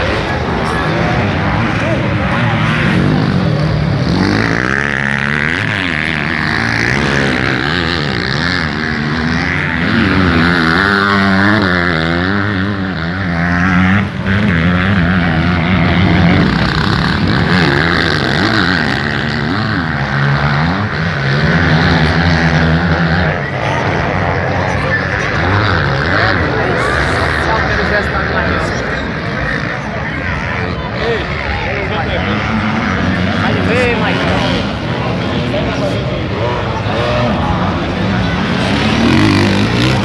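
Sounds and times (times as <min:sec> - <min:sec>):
motocross bike engines revving: 0:00.0 - 0:40.0.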